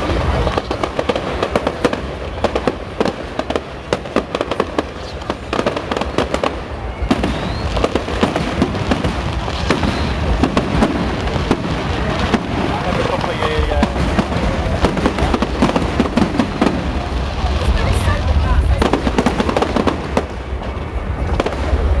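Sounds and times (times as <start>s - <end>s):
fireworks bangs and crackles: 0.0s - 22.0s
rising firework whistle: 0.0s - 22.0s.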